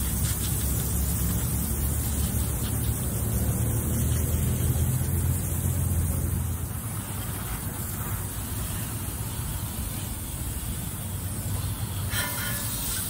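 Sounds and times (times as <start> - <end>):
hose water spraying hiss: 0.0 - 13.0.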